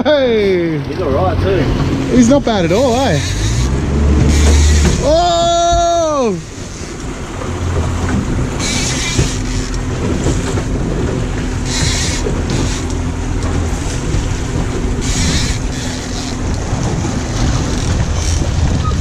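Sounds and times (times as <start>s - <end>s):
outboard motor running: 0.0s - 19.0s
water churning around hull: 0.0s - 19.0s
wind on microphone: 3.0s - 19.0s.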